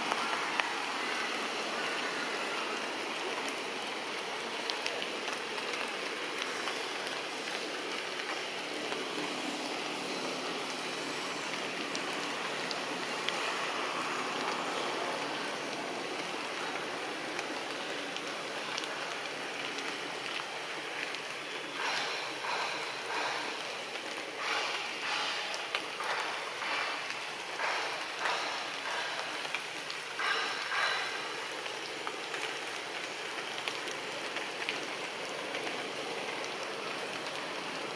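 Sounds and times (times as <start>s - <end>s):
rushing outdoor noise: 0.0s - 37.9s.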